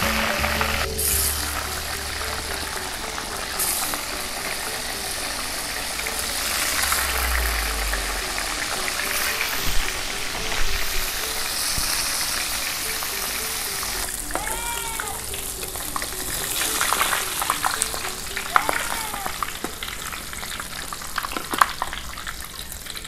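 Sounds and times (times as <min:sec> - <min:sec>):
oil popping: 0:00.0 - 0:23.0.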